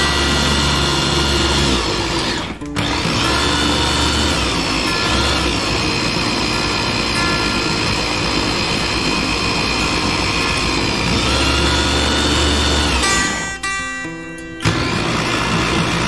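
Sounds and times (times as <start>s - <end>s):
electric chopper motor whining: 0.0s - 16.0s.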